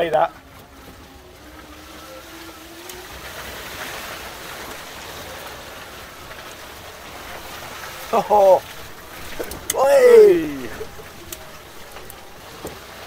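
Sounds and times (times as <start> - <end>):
tyre track and wind noise: 0.0 - 13.0.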